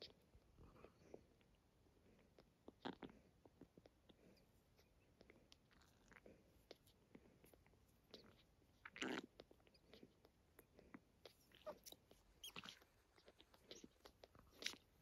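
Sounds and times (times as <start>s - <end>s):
puppies suckling wet smacking: 0.0s - 15.0s.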